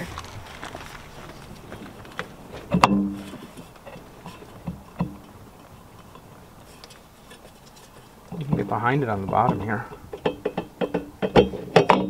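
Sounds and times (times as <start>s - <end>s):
motor rotor knocking and clunking: 0.0s - 12.0s.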